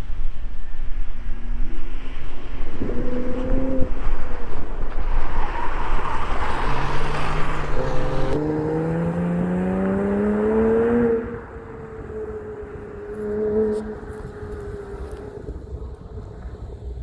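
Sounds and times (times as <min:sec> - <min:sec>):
wind noise: 0:00.0 - 0:17.0
car engine accelerating hard: 0:02.0 - 0:16.8.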